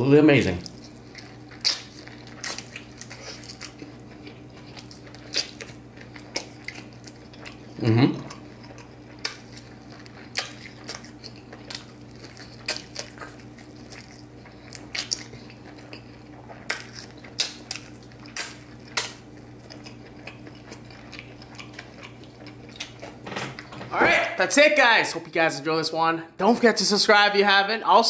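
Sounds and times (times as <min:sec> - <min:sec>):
steady low hum: 0:00.0 - 0:28.0
chewing clicks and wet smacks: 0:00.6 - 0:23.7.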